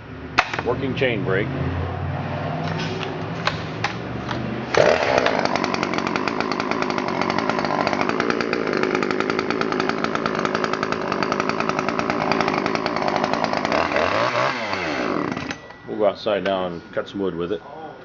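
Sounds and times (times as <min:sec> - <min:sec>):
chainsaw running: 0:03.0 - 0:17.5.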